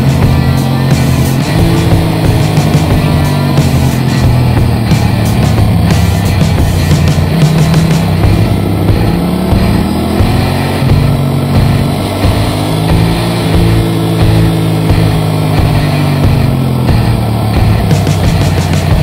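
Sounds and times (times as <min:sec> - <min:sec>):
motorcycle engine accelerating: 0:00.0 - 0:19.0
steady rushing noise: 0:00.0 - 0:19.0.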